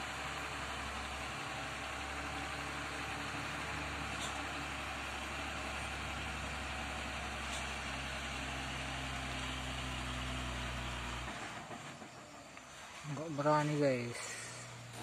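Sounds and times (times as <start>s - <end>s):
constant hiss: 0.0s - 15.0s
truck diesel engine idling: 0.0s - 15.0s.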